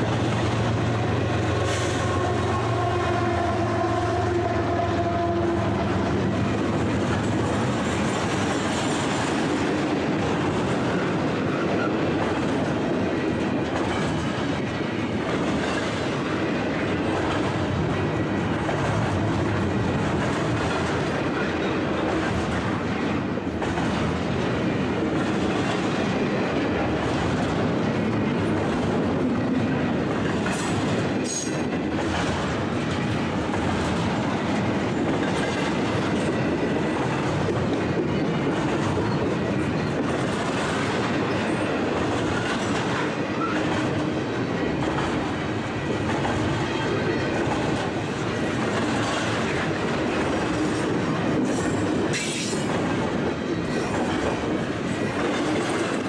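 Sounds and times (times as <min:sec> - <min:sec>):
train wheels rumbling over rails: 0:00.0 - 0:56.0.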